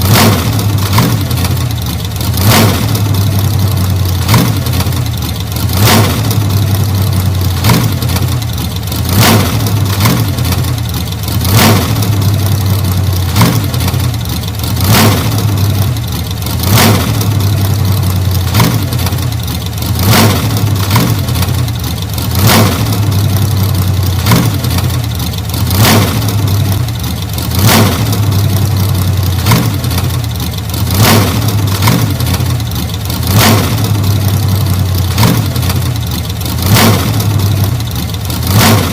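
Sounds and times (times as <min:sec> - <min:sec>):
engine running with surges: 0:00.0 - 0:38.9.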